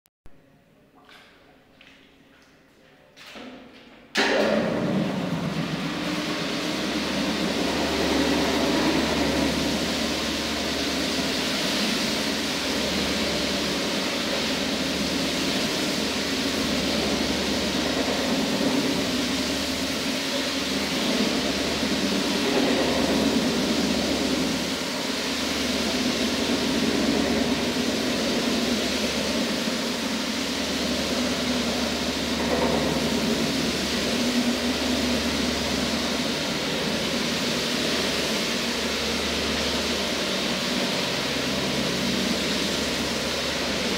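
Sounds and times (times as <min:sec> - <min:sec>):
floor grinding machine running: 0:03.1 - 0:43.9.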